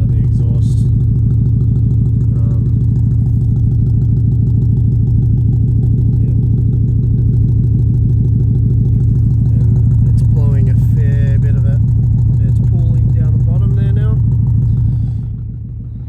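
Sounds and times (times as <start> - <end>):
car engine idling roughly: 0.0 - 16.0
engine exhaust ticking: 0.0 - 16.0.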